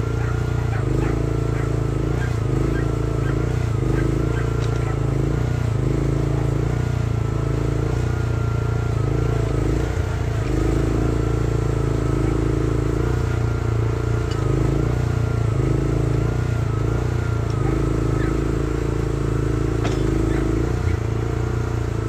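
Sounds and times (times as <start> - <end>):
excavator engine under load: 0.0 - 22.0.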